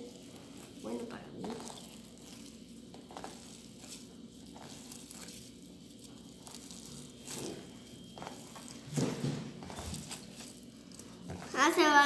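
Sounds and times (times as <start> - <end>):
modelling dough squishing: 0.0 - 12.0.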